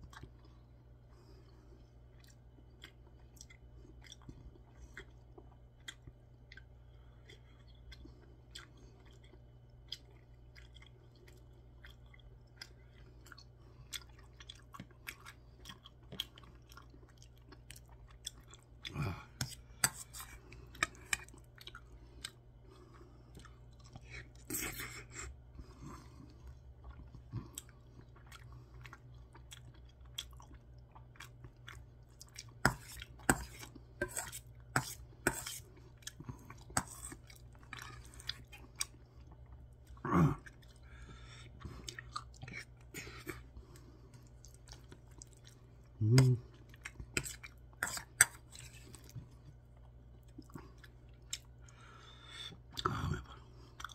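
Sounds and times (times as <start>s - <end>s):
chewing and mouth sounds: 0.0s - 53.9s.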